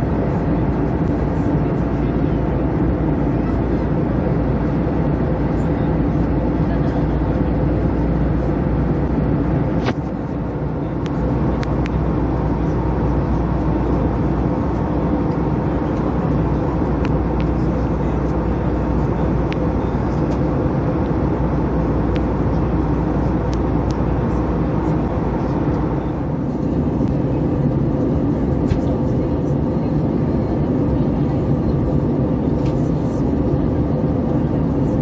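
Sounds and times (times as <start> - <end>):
jet engines and airflow rush: 0.0 - 35.0.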